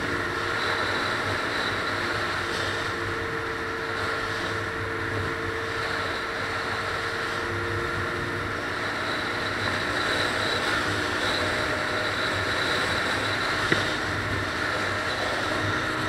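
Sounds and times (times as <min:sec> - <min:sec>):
low engine hum: 0:00.0 - 0:16.0
tyres on road: 0:00.0 - 0:16.0
wind rushing past car: 0:00.0 - 0:16.0.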